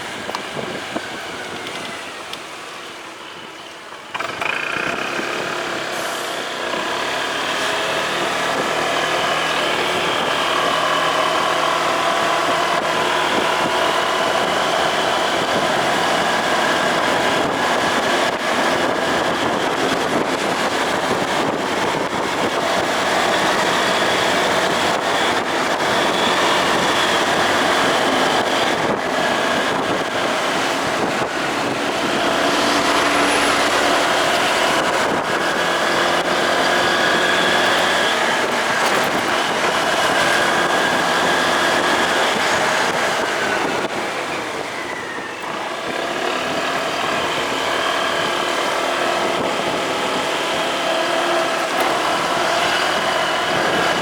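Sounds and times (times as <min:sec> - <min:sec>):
road and wind noise: 0:00.0 - 0:54.0
motorcycle engine running: 0:04.1 - 0:44.7, 0:45.5 - 0:54.0.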